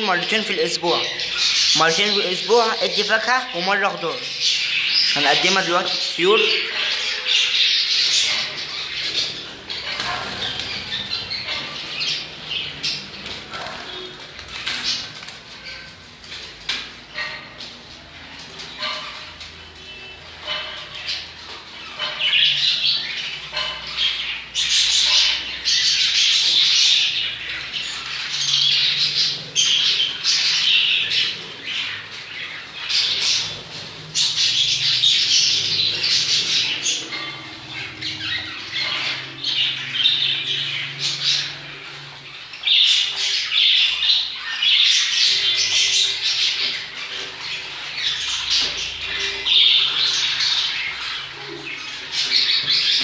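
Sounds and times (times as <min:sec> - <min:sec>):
lovebirds chattering and squawking: 0:00.0 - 0:53.0.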